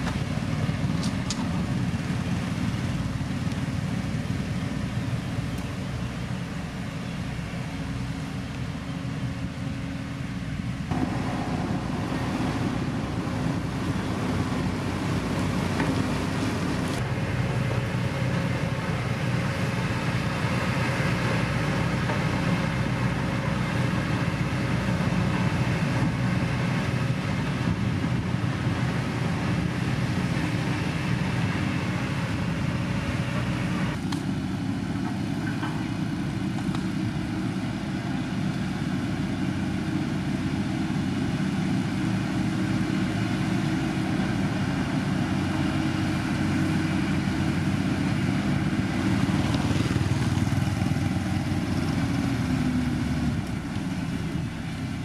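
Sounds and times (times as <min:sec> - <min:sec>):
diesel road rollers running: 0:00.0 - 0:55.0
motor grader spreading gravel: 0:00.0 - 0:55.0.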